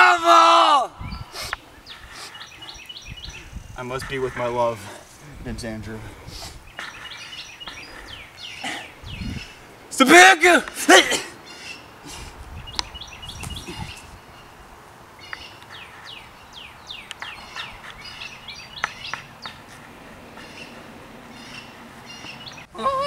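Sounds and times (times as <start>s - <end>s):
steady outdoor hiss: 0.0s - 23.0s
small birds chirping: 1.0s - 23.0s.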